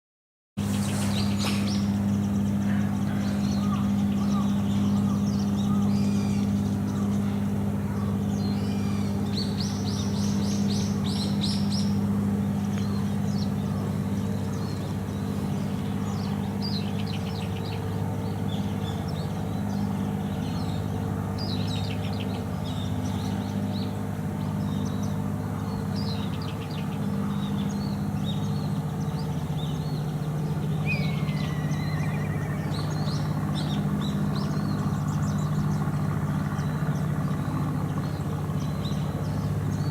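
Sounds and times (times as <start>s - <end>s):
engine idling: 0.6s - 39.9s
small birds chirping: 0.6s - 39.9s.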